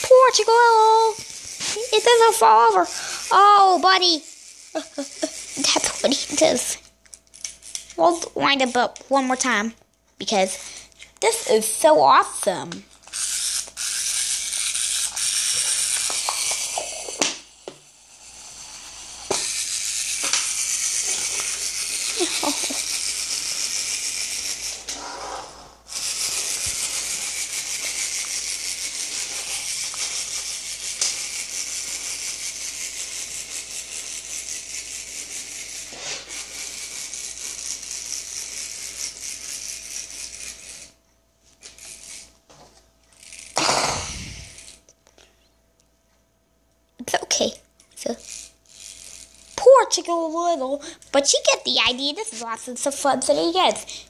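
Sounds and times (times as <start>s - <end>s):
clockwork toy motor whirring: 0.0s - 45.0s, 47.0s - 54.0s.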